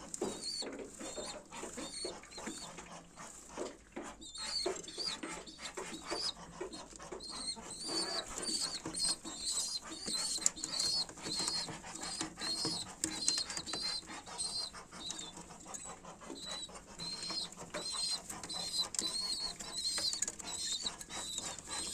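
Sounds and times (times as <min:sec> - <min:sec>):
birds scuffling: 0:00.0 - 0:21.9
pigeon squabs squeaking: 0:00.0 - 0:21.9.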